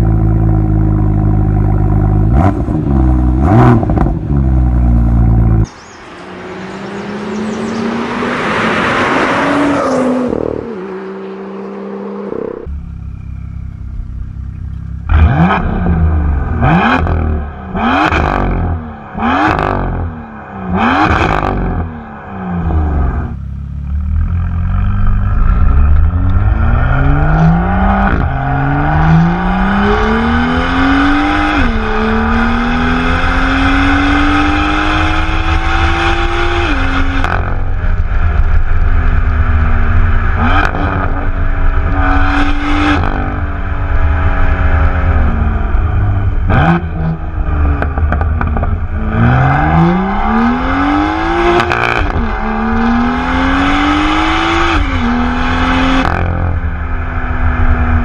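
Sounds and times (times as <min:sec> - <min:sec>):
car exhaust under hard acceleration: 0:00.0 - 0:08.3, 0:10.2 - 0:58.0
wind and road noise rumble: 0:00.0 - 0:58.0.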